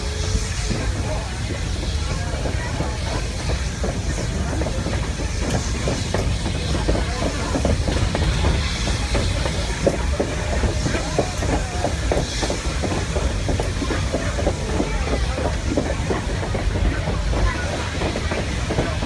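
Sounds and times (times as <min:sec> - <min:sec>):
train rumble: 0:00.0 - 0:19.0
train wheels clattering on track: 0:00.0 - 0:19.0.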